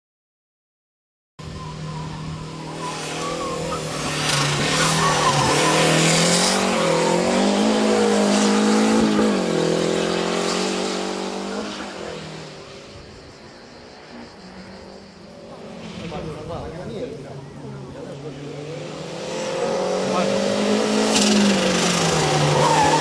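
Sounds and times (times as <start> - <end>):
race car engine at full throttle: 1.4 - 23.0.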